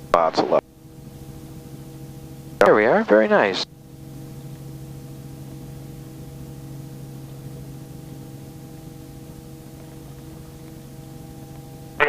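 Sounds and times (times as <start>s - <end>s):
helicopter engine and rotors: 0.0s - 12.0s.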